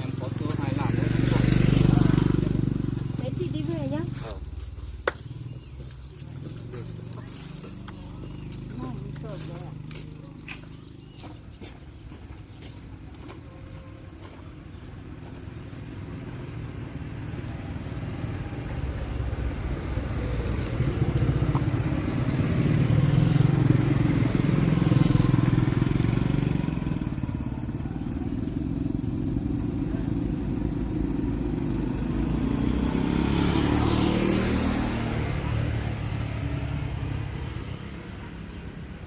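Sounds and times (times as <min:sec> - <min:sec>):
motorcycle engine running: 0:00.0 - 0:11.6, 0:15.1 - 0:39.0.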